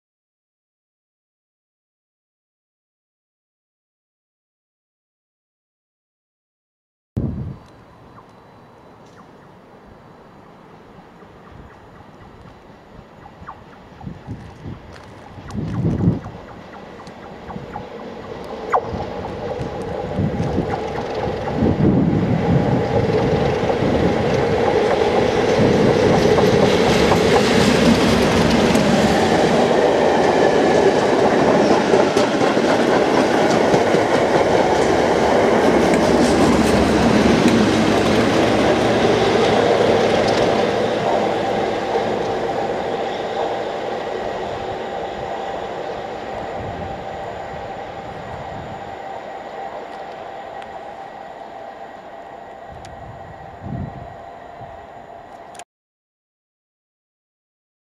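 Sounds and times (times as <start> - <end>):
diesel locomotive engines: 7.5 - 55.6
train coaches rolling on rails: 7.9 - 55.6.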